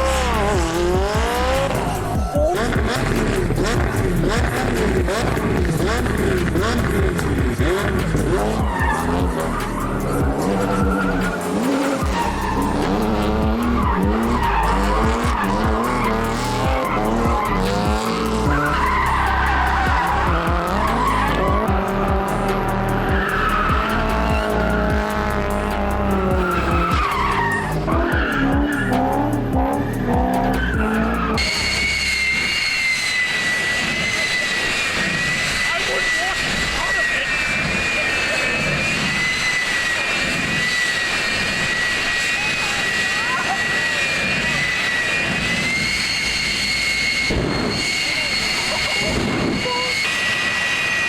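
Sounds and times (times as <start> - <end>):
jet engine whine: 0.0 - 28.0, 31.3 - 51.0
car engine revving: 0.0 - 51.0
tyres squealing: 0.0 - 51.0.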